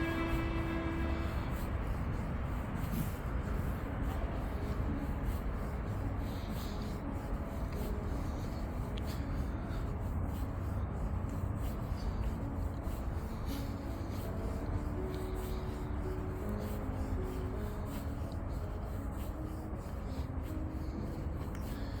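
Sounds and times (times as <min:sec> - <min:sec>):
footsteps on a path: 0:00.0 - 0:22.0
wind rumble on microphone: 0:00.0 - 0:22.0.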